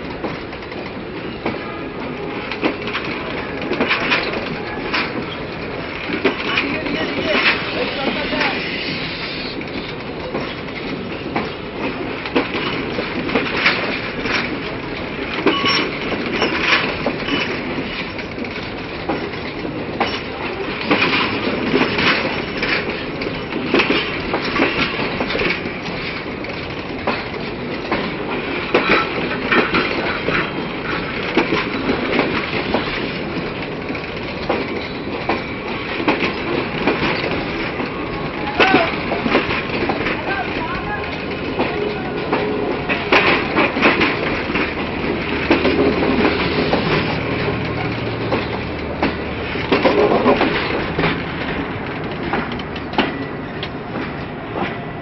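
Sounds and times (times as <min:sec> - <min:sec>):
clanks over rail joints: 0:00.0 - 0:55.0
train wheels rumbling on track: 0:00.0 - 0:55.0.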